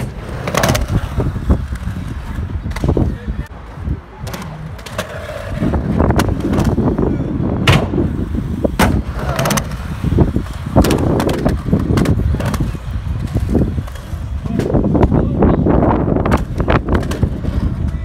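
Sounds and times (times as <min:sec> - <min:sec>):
skateboard clacks: 0:00.0 - 0:18.0
skateboard wheels rumbling: 0:00.0 - 0:18.0.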